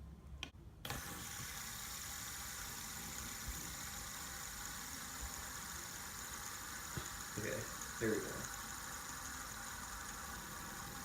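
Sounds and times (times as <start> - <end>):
whirring hiss: 0.8 - 11.0.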